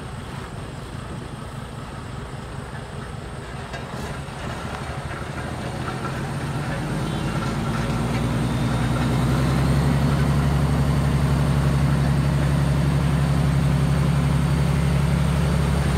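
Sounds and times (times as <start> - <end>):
diesel truck engine idling: 0.0 - 15.9.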